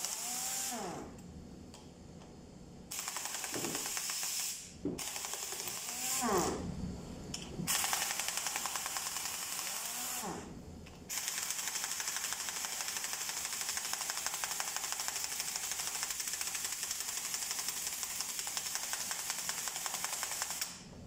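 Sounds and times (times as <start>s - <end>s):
air impact wrench hammering: 0.0s - 1.0s, 2.9s - 6.6s, 7.7s - 10.4s, 11.1s - 20.8s.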